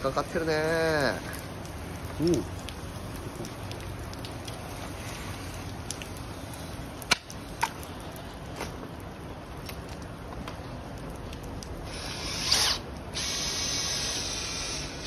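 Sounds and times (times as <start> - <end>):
water spraying on jacket: 0.0 - 15.0.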